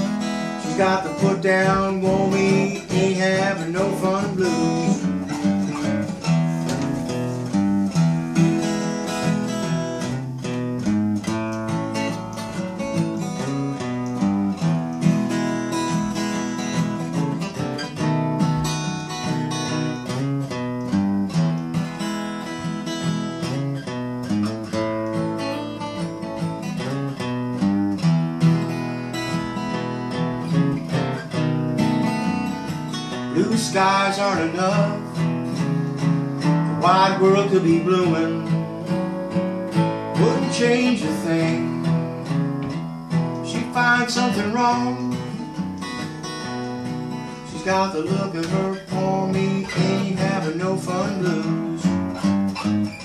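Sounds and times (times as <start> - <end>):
acoustic guitar blues playing: 0.0 - 53.0.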